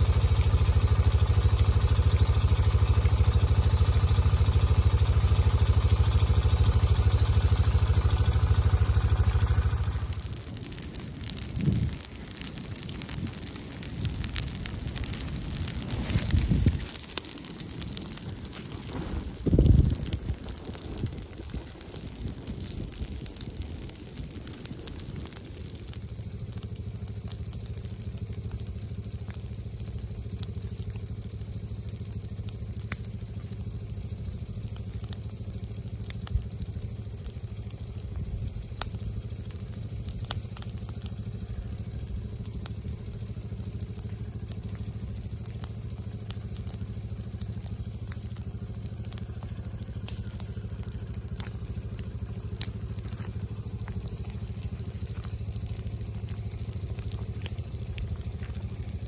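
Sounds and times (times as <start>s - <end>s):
fire crackling in dry leaves: 0.0s - 59.0s
steady low rumble: 0.0s - 59.0s.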